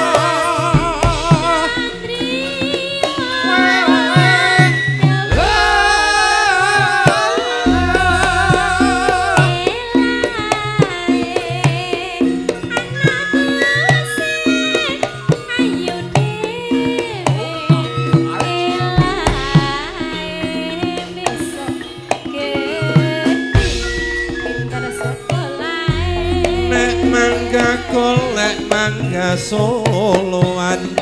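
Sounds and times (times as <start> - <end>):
hand drum rhythm: 0.0 - 31.0
woman singing into a microphone: 0.0 - 31.0.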